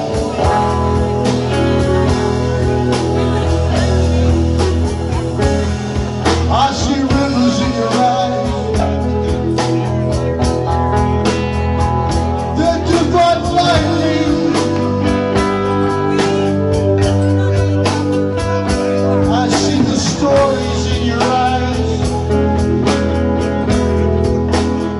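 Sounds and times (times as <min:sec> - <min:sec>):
live rock band playing: 0:00.0 - 0:24.9.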